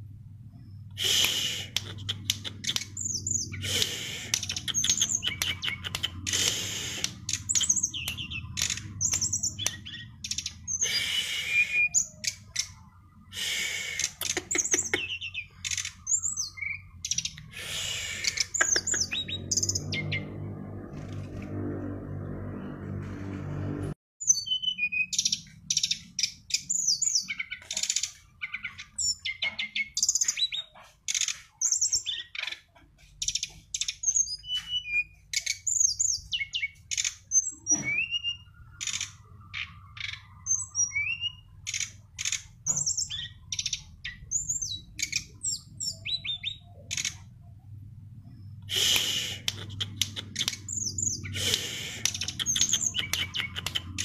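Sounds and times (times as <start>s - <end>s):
songbird singing: 0.5s - 21.2s, 24.2s - 54.0s.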